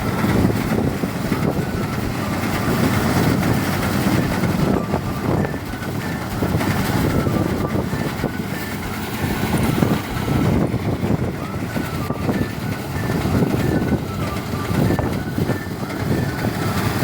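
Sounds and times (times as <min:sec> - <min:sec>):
rice threshing machine running: 0:00.0 - 0:17.0.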